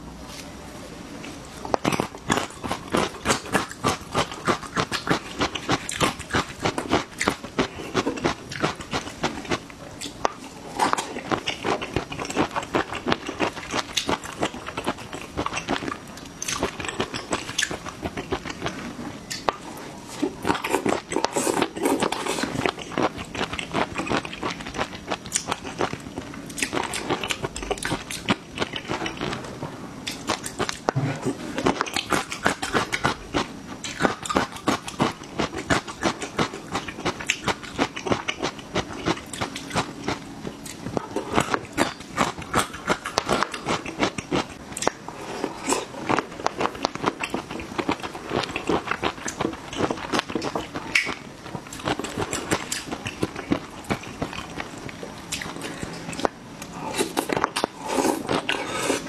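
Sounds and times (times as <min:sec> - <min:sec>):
crunchy chewing: 0:01.2 - 0:59.0.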